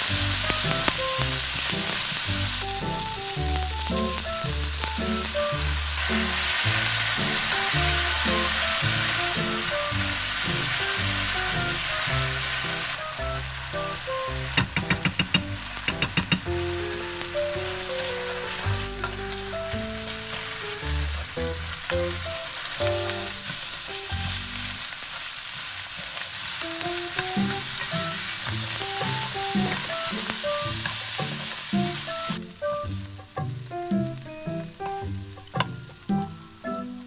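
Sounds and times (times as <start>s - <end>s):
light melody: 0.0s - 24.9s, 26.5s - 37.0s
chopsticks stirring in a pan: 0.0s - 36.3s
pasta sizzling in a frying pan: 0.0s - 37.0s.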